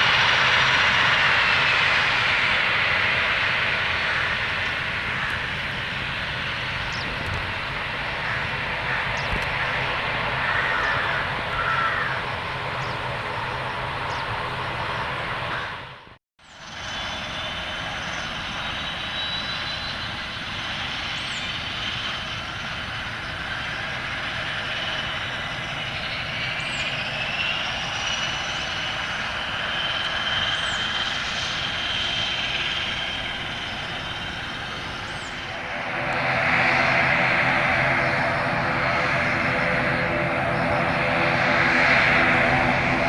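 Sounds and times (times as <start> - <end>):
propeller drone: 0.0 - 43.0
turboprop turbine whine: 0.0 - 43.0.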